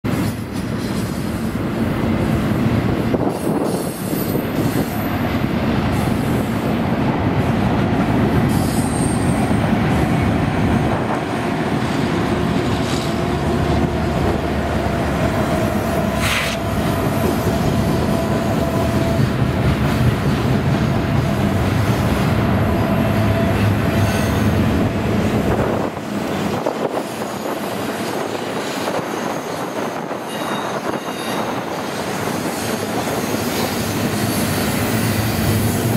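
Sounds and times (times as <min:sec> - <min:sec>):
freight train rumble: 0:00.0 - 0:35.9.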